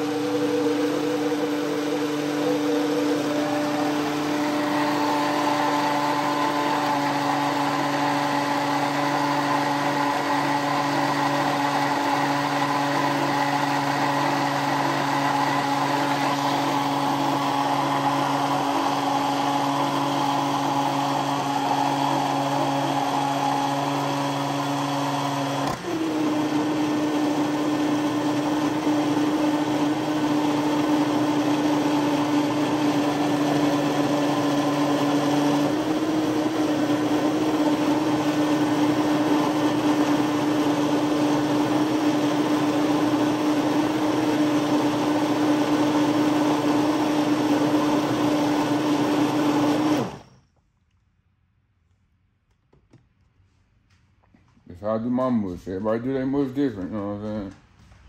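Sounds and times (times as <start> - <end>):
electric blender motor running: 0.0 - 50.3.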